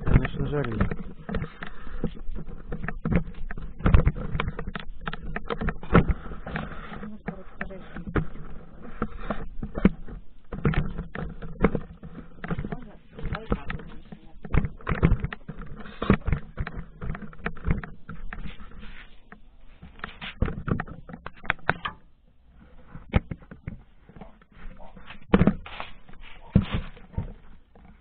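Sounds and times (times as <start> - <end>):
clicks and knocks: 0.0 - 28.0
rustling: 0.0 - 28.0.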